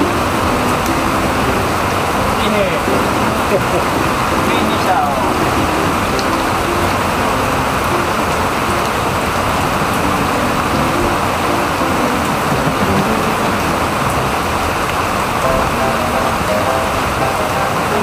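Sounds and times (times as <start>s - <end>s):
heavy rain on concrete: 0.0s - 18.0s.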